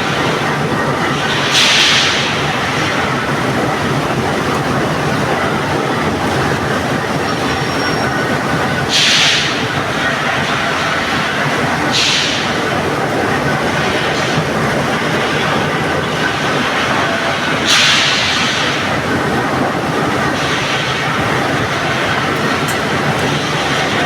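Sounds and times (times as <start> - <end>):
factory machinery rumbling and clattering: 0.0 - 24.0.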